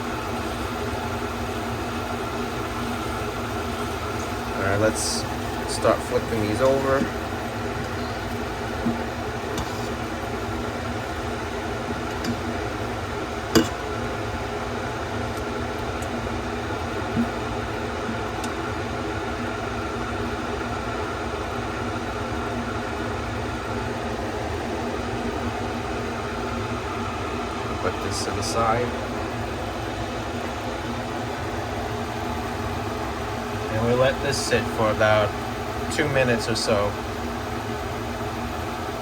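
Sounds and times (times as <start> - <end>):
range hood fan humming: 0.0 - 39.0.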